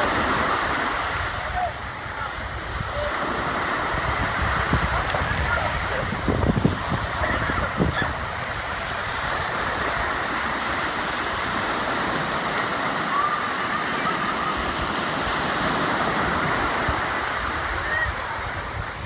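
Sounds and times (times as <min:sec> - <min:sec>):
ocean surf breaking on beach: 0:00.0 - 0:19.0
wind gusts on microphone: 0:00.0 - 0:19.0.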